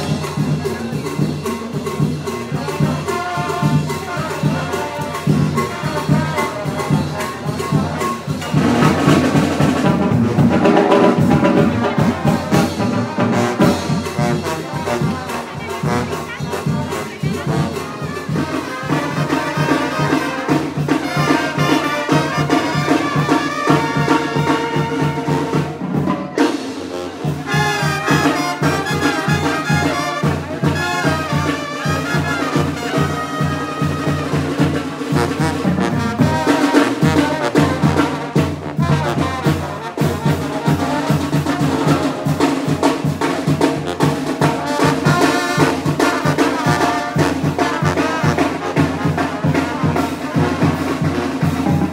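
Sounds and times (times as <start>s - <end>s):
steady drum beat: 0.0s - 51.9s
trumpets and trombones: 0.0s - 51.9s.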